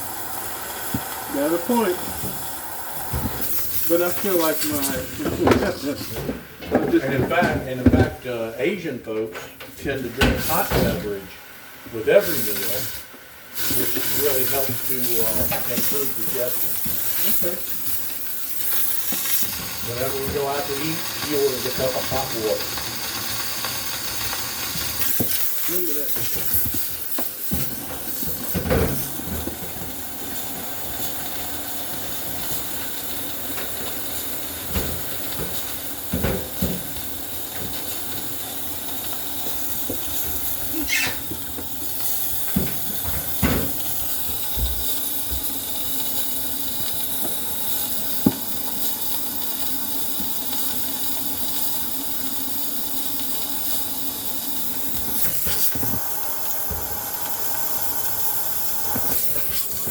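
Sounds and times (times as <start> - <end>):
steamer hissing: 0.0 - 59.9.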